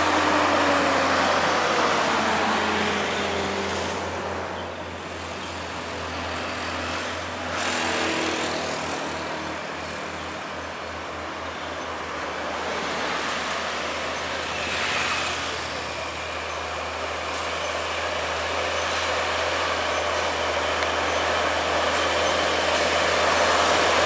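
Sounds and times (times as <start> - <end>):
rush of passing traffic: 0.0 - 24.0
trucks labouring uphill: 0.0 - 24.0.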